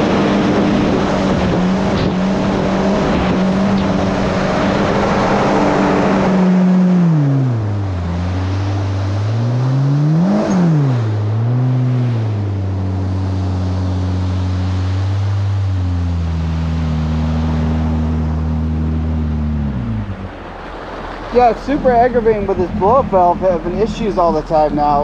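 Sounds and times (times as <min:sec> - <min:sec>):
jet ski engine running: 0:00.0 - 0:25.0.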